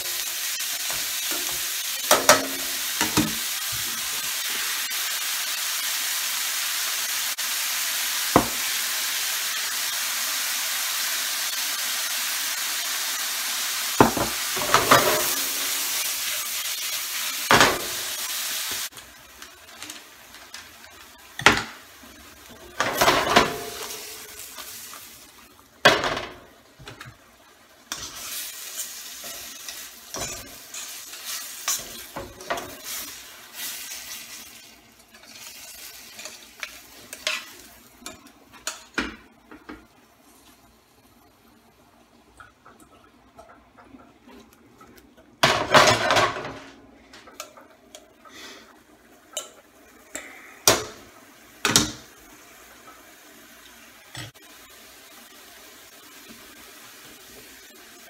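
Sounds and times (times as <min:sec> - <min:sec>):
mushrooms sizzling in a pan: 0:00.0 - 0:42.8, 0:44.3 - 0:58.0.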